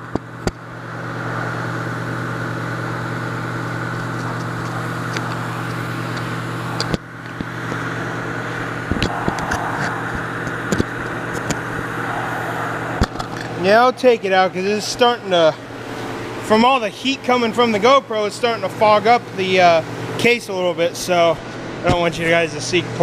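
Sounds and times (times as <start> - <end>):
motor hum: 0.0 - 23.0.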